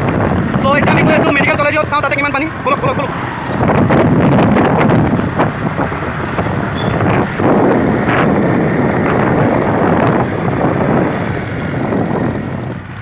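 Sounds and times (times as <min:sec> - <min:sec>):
vehicle and road noise: 0:00.0 - 0:13.0
wind buffeting microphone: 0:00.0 - 0:13.0.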